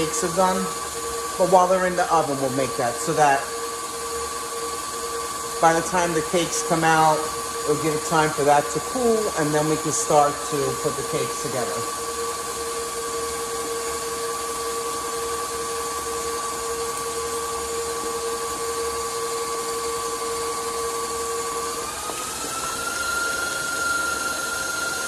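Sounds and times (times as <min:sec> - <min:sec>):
stand mixer motor whine: 0:00.0 - 0:25.0
whisk whirring: 0:00.0 - 0:25.0.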